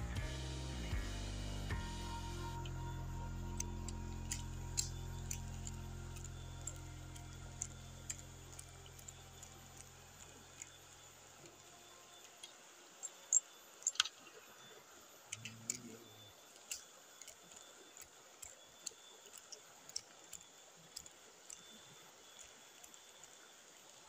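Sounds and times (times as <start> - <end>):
low hum: 0.0 - 24.0
sharp clicks and ticks: 2.6 - 14.3, 15.2 - 24.0.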